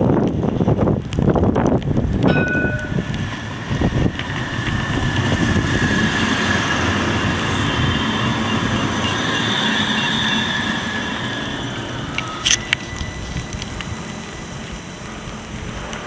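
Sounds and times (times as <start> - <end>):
tram passing with high whine: 0.0 - 16.0
wheels rumbling on rails: 0.0 - 16.0.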